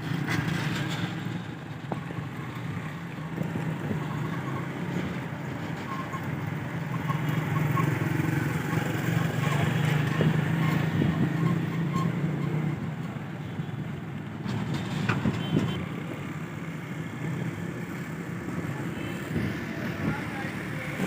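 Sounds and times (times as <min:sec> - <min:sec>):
road noise: 0:00.0 - 0:21.0
vehicle engine humming: 0:00.0 - 0:21.0.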